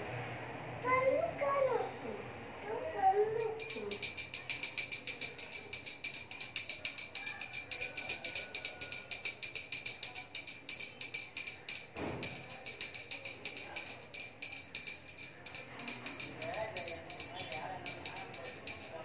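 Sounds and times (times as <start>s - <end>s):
hand bell rung rapidly: 3.4s - 19.0s.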